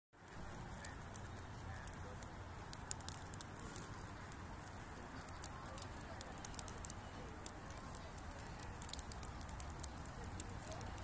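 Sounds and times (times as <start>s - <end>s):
raindrops ticking: 0.2s - 11.0s.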